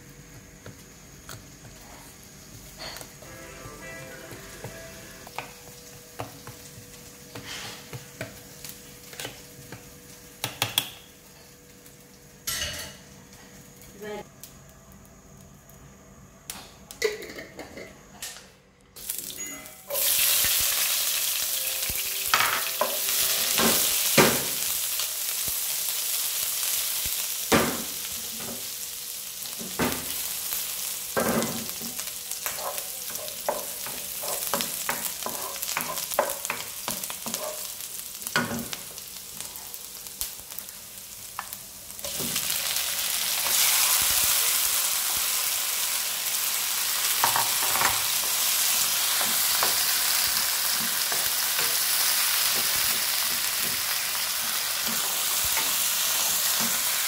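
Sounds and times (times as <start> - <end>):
onion sizzling in hot oil: 0.0 - 14.5, 19.0 - 57.0.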